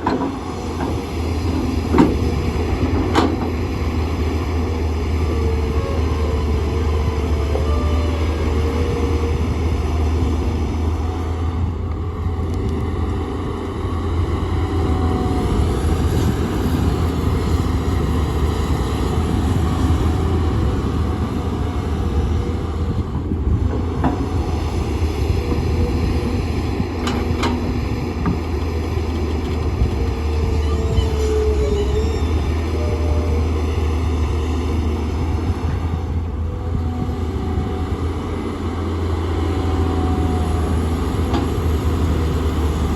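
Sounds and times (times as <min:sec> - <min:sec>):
excavator diesel engine rumbling: 0:00.0 - 0:42.9.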